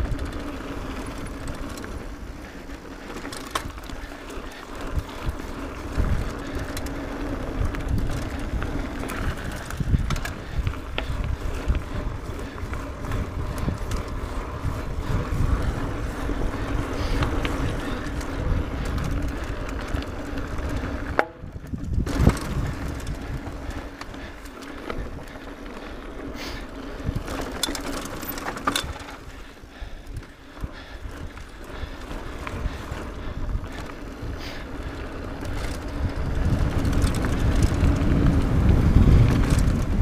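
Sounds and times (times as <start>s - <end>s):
bike rattling and knocking: 0.0s - 40.0s
bike tyres rumbling over dirt: 0.0s - 40.0s
wind buffeting microphone: 0.0s - 40.0s.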